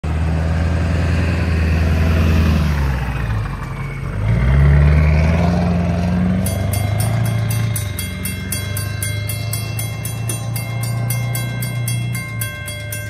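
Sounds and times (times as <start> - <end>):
truck engine pulling past: 0.0 - 13.0
trucks driving over railroad crossing: 0.0 - 13.0.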